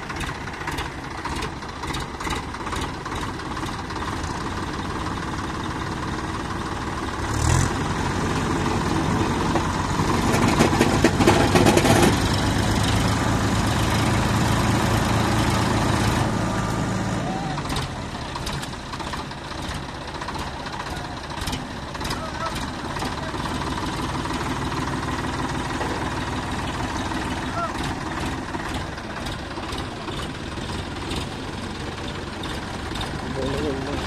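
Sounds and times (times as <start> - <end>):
tractor diesel engine running hard: 0.0 - 34.0.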